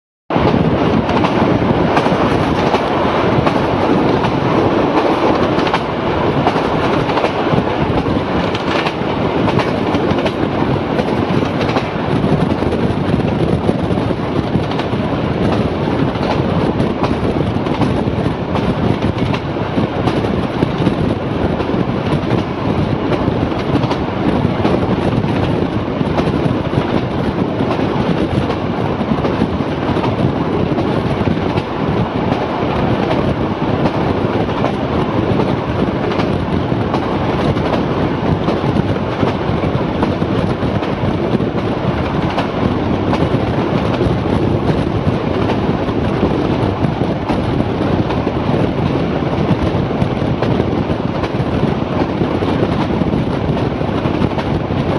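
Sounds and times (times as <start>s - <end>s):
clickety-clack over rail joints: 0.3s - 54.9s
train wheels rumbling on rails: 0.3s - 54.9s.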